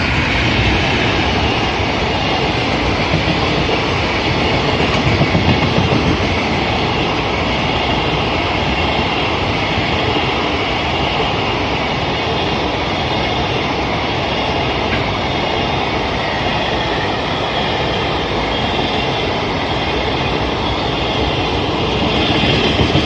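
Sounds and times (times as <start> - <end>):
freight train wheels on rail: 0.0 - 23.0.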